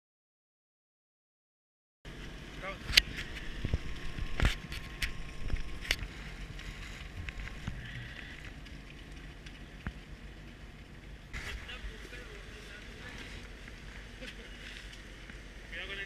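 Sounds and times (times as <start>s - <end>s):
boat engine rumble: 2.1s - 16.0s.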